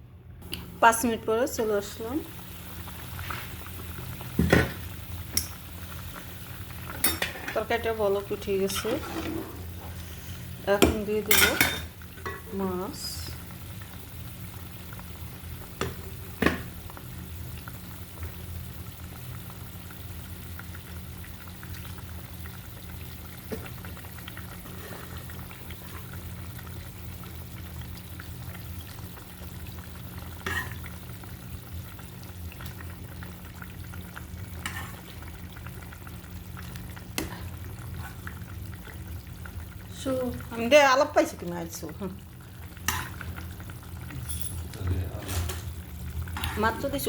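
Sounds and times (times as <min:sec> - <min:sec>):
curry bubbling in a pot: 0:01.8 - 0:47.0.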